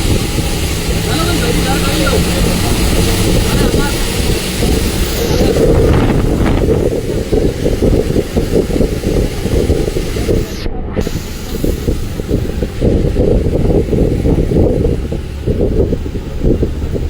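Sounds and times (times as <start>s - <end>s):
bus engine and road rumble: 0.0s - 17.0s
wind buffeting microphone: 0.0s - 17.0s.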